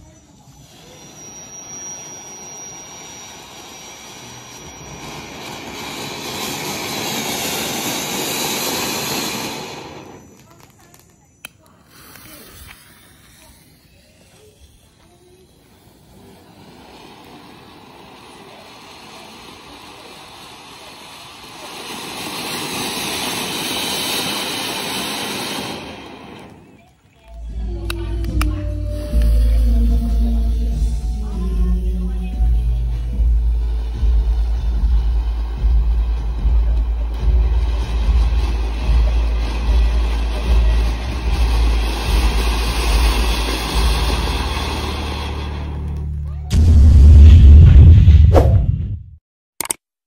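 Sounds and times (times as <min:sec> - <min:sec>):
firework fountain hissing: 0:00.0 - 0:46.5.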